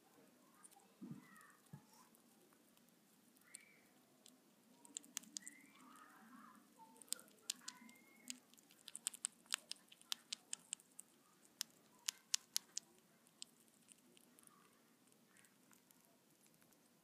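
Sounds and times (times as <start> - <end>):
crunching of insect being chewed: 1.5 - 6.0, 7.0 - 17.0.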